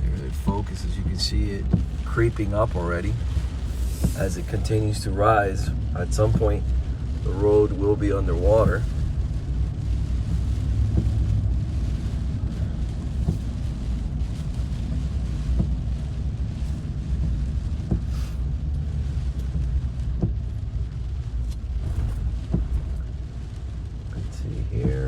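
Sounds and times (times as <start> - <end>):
road and wind noise in car: 0.0 - 25.0.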